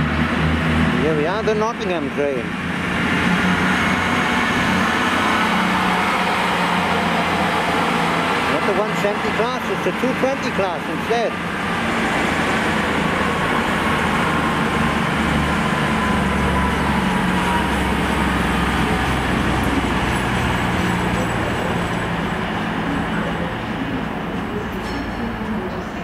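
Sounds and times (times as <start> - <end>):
diesel engines humming low: 0.0 - 26.0
train wheel and running noise: 0.0 - 26.0.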